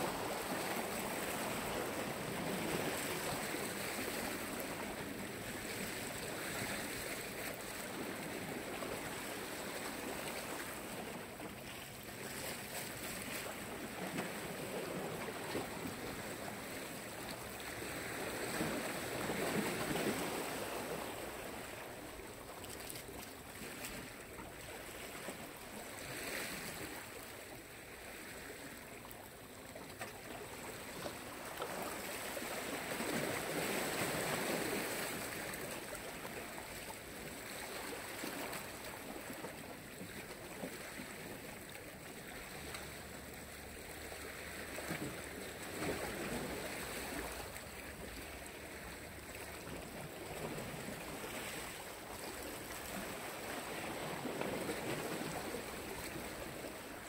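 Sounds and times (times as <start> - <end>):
surf washing onto shore: 0.0 - 27.3, 30.5 - 57.0.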